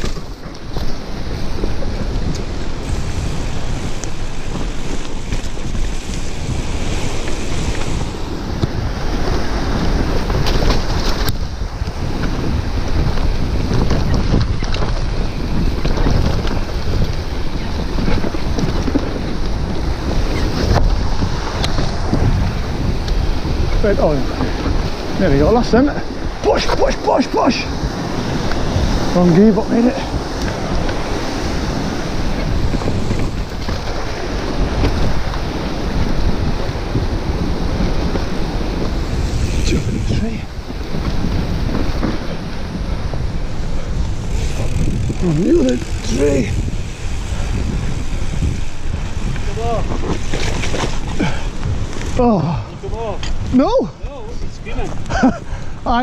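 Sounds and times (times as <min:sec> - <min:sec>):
bike clicks and rattles: 0:00.0 - 0:26.8, 0:27.8 - 0:53.6
bike tyres rolling on dirt: 0:00.0 - 0:56.0
wind buffeting microphone: 0:00.0 - 0:56.0.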